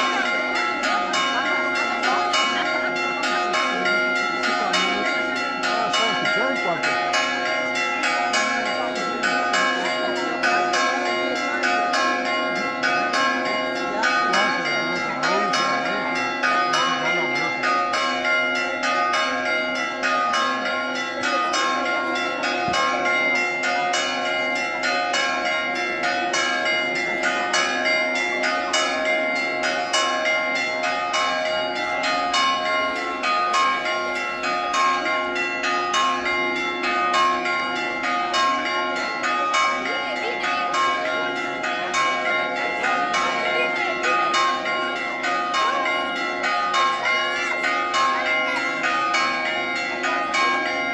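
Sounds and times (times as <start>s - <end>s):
church bells ringing: 0.0s - 50.9s
faint crowd voices: 0.0s - 50.9s.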